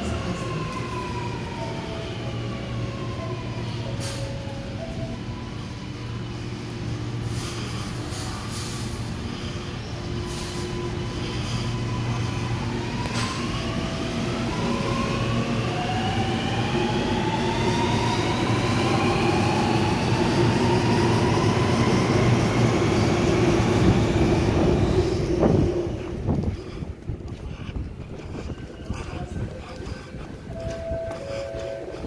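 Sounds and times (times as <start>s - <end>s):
wheels rumbling on rail: 0.0s - 32.0s.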